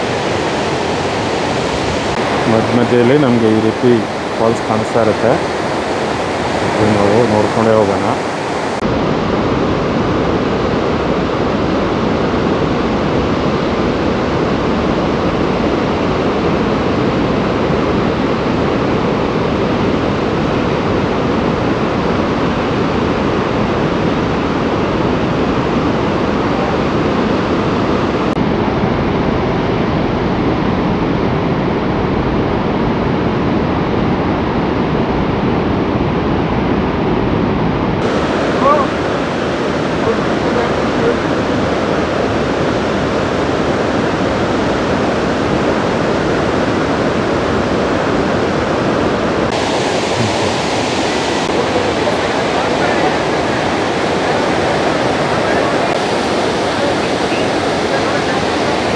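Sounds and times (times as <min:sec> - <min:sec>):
large waterfall rushing: 0:00.0 - 0:28.4, 0:38.0 - 0:58.9.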